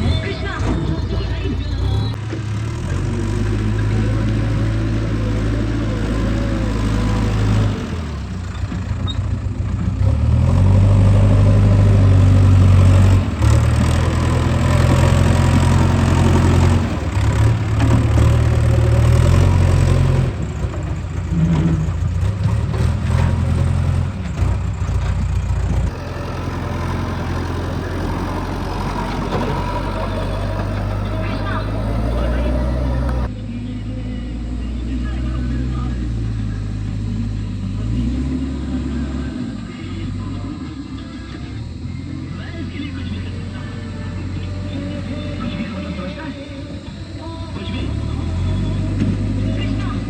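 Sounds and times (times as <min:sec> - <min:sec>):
diesel engine working: 0:00.0 - 0:50.0.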